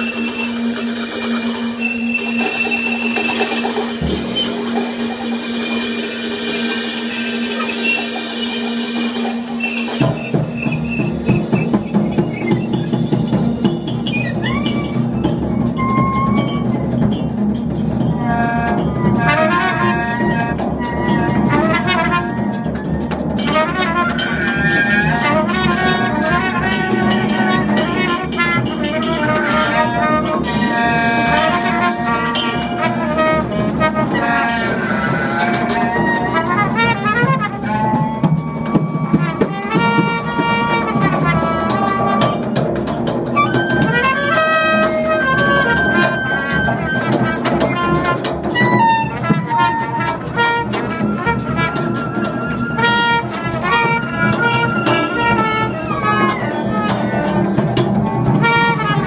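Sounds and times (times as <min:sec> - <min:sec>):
trumpet lines: 0:00.0 - 0:17.1, 0:18.0 - 0:59.0
drums: 0:00.0 - 0:59.0.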